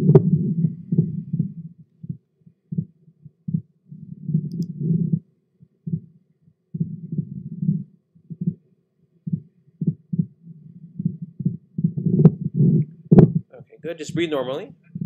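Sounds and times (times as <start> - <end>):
heartbeat thumps: 0.0 - 8.6, 9.2 - 13.6.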